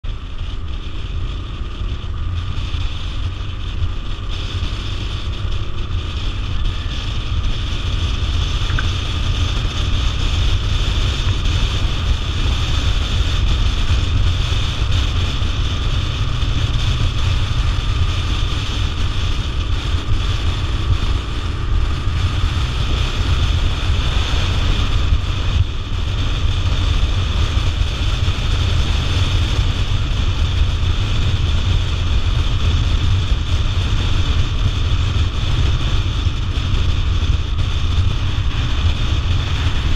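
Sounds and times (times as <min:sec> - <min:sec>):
motorcycle engine and tyres droning: 0:00.0 - 0:39.9
wind buffeting microphone: 0:00.0 - 0:39.9.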